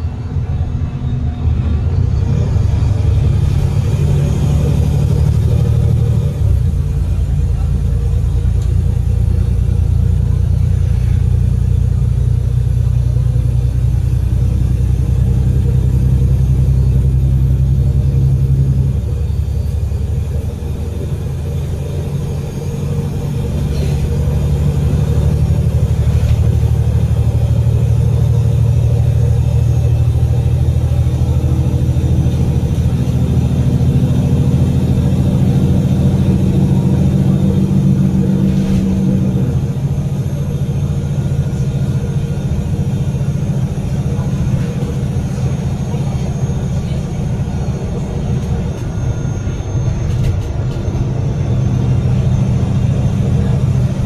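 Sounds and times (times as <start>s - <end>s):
bus diesel engine under load: 0.0s - 54.0s.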